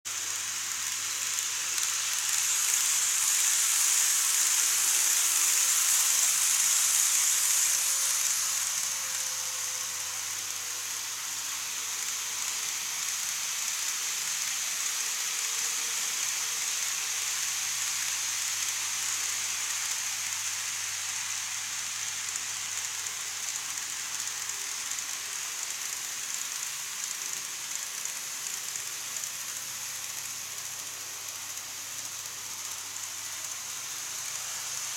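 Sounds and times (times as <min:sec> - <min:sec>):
faint motor whine: 0:00.1 - 0:34.9
wheels rolling on model rails: 0:00.1 - 0:34.9.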